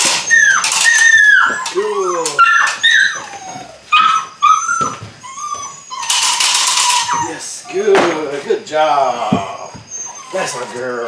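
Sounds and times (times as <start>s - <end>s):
puppy yelping and whining: 0.0s - 11.0s.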